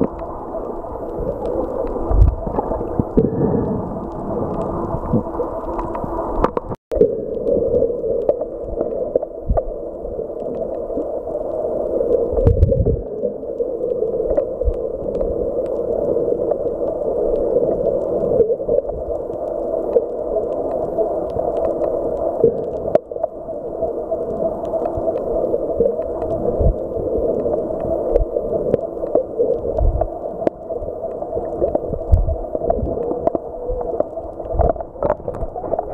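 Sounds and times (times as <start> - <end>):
muffled underwater hum: 0.0 - 35.9.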